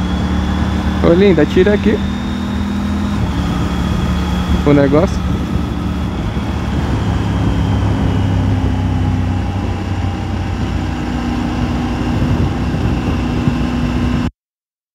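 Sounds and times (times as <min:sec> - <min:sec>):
motorcycle engine running: 0:00.0 - 0:14.3
road and wind noise: 0:00.0 - 0:14.3.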